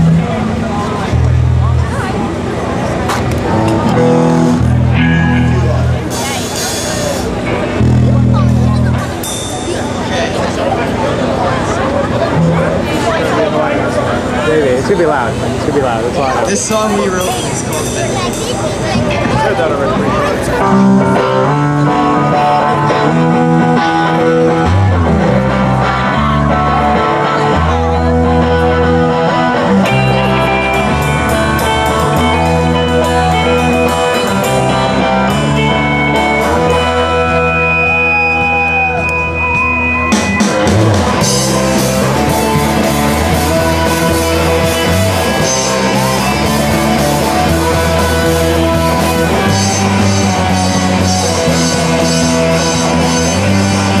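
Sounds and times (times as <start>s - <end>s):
drums: 0.0s - 54.0s
electric bass: 0.0s - 54.0s
electric guitars: 0.0s - 54.0s.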